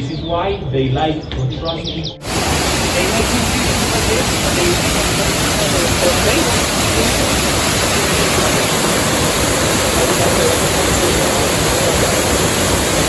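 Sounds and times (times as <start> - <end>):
faint voices: 2.2 - 13.0
stream water flowing: 2.2 - 13.0.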